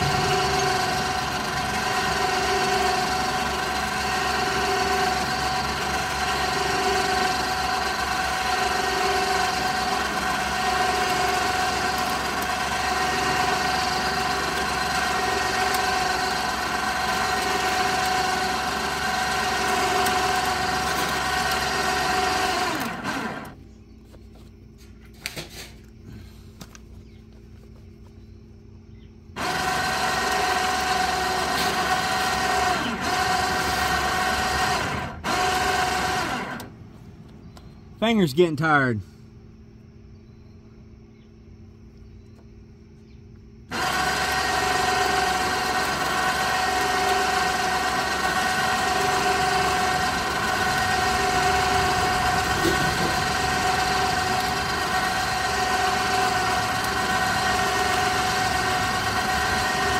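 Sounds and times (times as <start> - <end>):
winch motor whining: 0.0 - 27.4, 28.7 - 38.9, 41.8 - 59.9.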